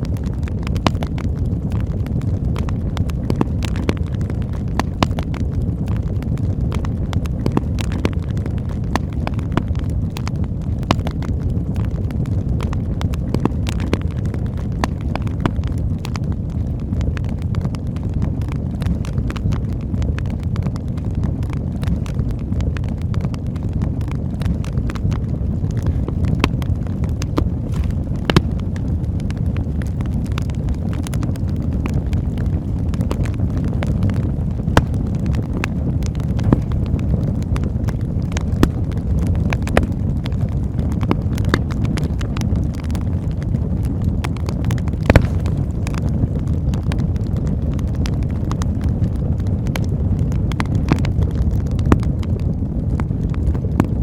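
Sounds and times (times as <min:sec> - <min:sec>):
campfire flame rushing: 0:00.0 - 0:54.0
fire low rumble: 0:00.0 - 0:54.0
wood crackling and popping: 0:00.0 - 0:54.0.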